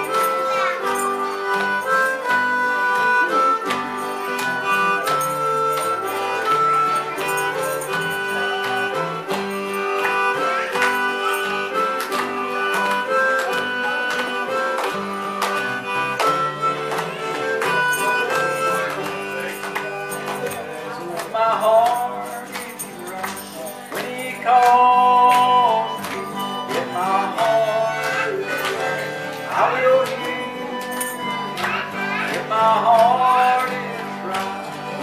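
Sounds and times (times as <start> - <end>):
harmonica melody: 0.0 - 35.0
strummed acoustic guitars: 0.0 - 35.0.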